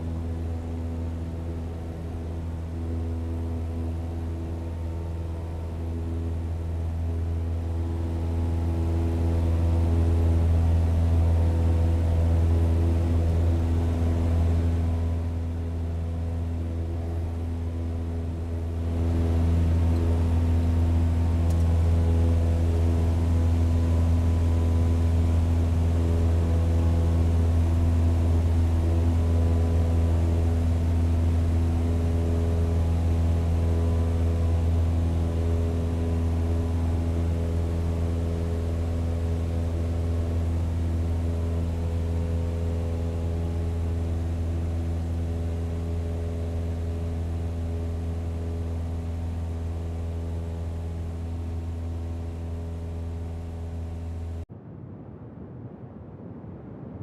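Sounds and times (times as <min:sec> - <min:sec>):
propeller aircraft engines droning: 0:00.0 - 0:54.5.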